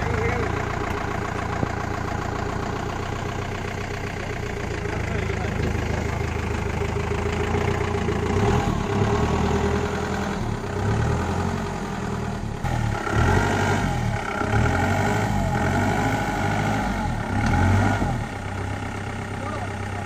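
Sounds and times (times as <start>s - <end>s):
jeep engines running at low revs: 0.0s - 20.0s.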